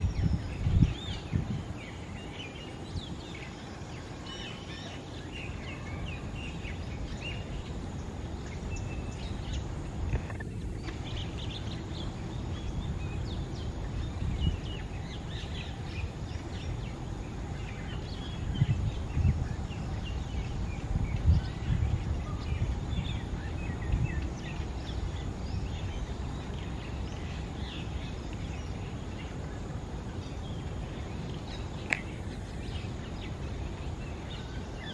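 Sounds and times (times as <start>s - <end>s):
birds chirping: 0.0s - 34.9s
low background rumble: 0.0s - 34.9s.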